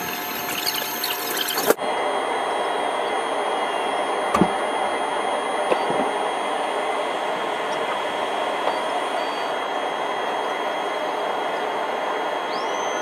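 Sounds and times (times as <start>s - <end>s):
hiss and whine of machinery: 0.0s - 13.0s.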